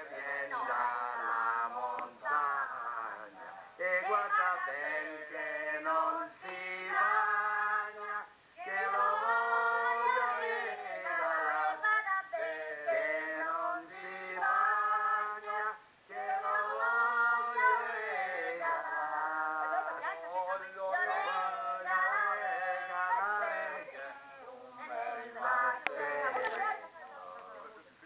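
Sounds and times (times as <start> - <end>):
voices singing a folk song: 0.0 - 28.0.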